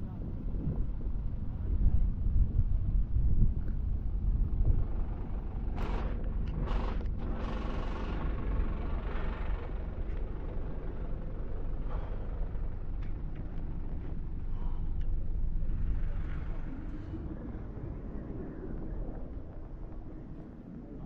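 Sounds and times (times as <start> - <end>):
low rumble of vehicles: 0.0 - 21.0.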